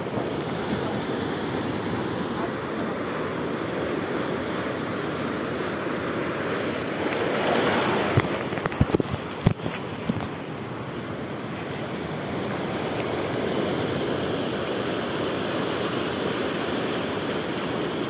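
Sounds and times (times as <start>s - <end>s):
sea surf breaking over rocks: 0.0s - 18.0s.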